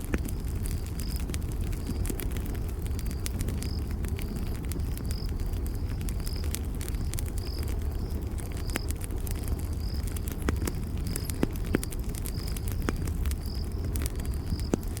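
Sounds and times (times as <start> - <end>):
campfire crackling and popping: 0.0 - 15.0
cricket chirping: 0.2 - 15.0.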